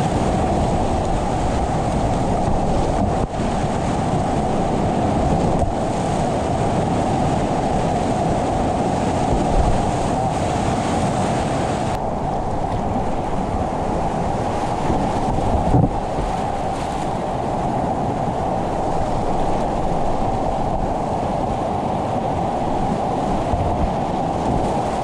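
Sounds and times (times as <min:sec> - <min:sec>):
whitewater rapids roaring: 0:00.0 - 0:25.0.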